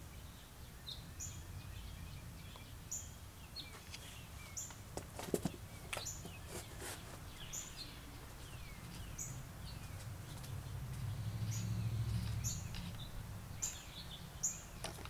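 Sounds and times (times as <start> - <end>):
bird chipping: 0.0 - 15.0.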